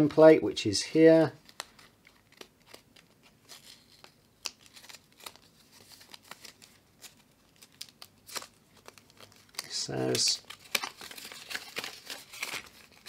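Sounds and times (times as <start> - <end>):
paper crinkling: 1.4 - 13.0.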